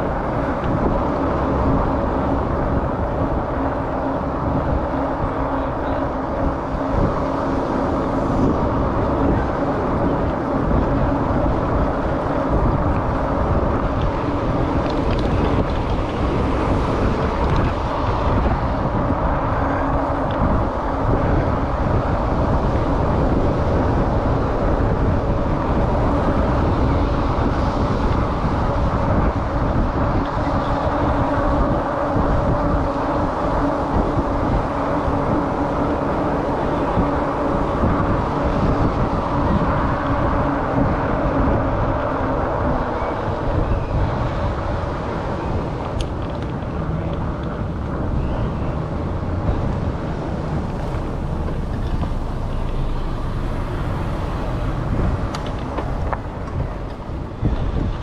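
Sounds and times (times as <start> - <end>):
wind buffeting camera: 0.0 - 58.0.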